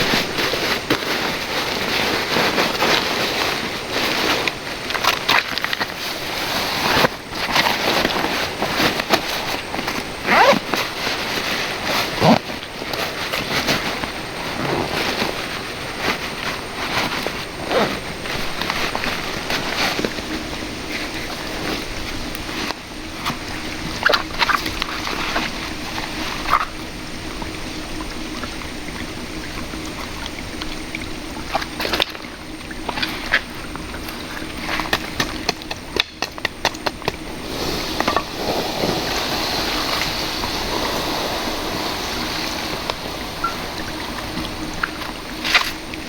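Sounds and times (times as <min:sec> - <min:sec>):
shallow river flowing: 0:00.0 - 0:46.0.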